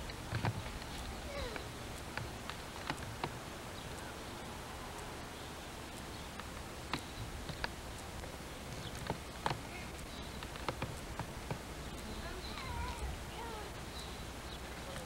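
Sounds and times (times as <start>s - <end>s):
light sharp clicks: 0.0s - 15.0s
steady low hum: 0.0s - 15.0s.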